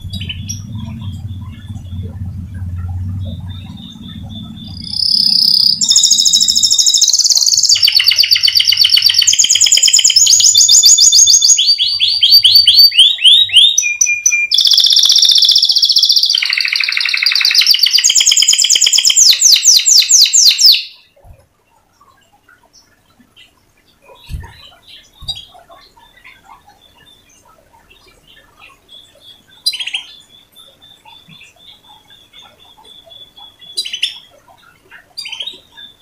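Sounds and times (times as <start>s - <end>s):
canary singing trills: 0.0s - 36.0s.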